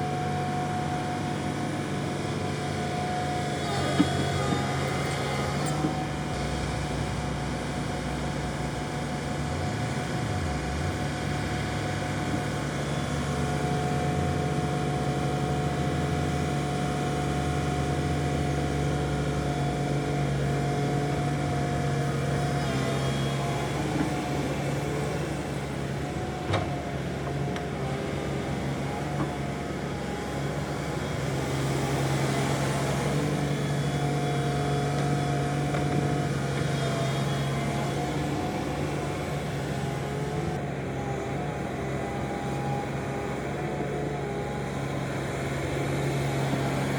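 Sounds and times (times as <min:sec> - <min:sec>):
machinery engines humming: 0:00.0 - 0:46.9.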